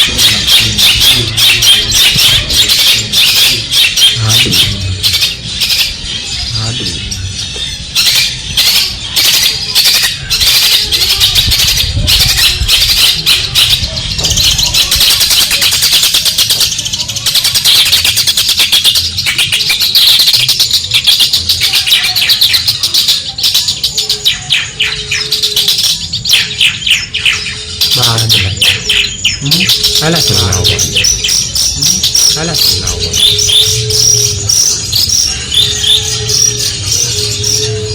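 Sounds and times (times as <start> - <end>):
bird singing scratchy chattering song: 0.0 - 37.9.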